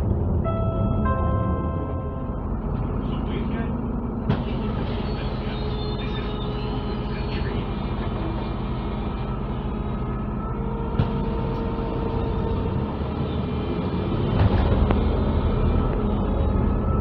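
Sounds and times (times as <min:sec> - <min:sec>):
bus engine running: 0:00.0 - 0:17.0
road rumble and rattles: 0:00.0 - 0:17.0.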